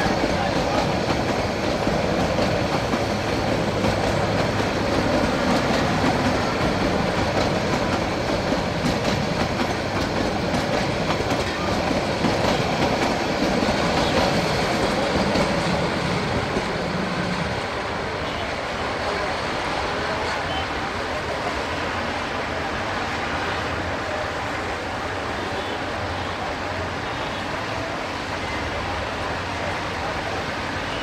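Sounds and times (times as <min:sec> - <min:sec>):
train wheels running on rails: 0:00.0 - 0:31.0.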